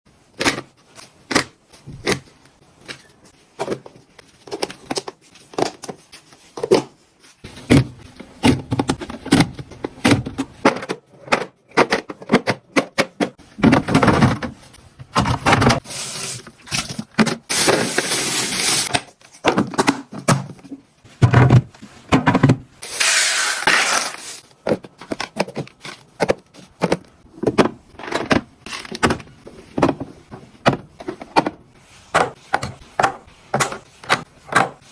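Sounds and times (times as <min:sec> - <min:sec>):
food packages clicking and knocking: 0:00.3 - 0:34.9.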